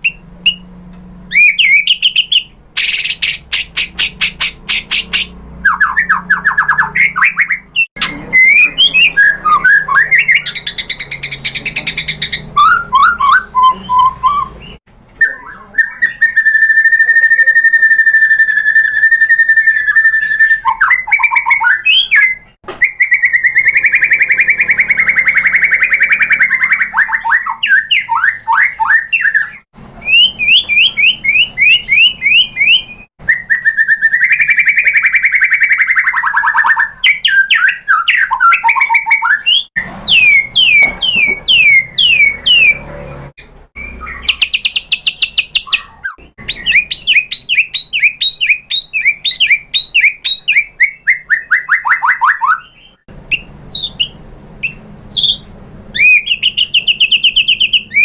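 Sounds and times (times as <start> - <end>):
bird singing whistled song: 0.0 - 0.7, 1.3 - 42.9, 43.8 - 58.0.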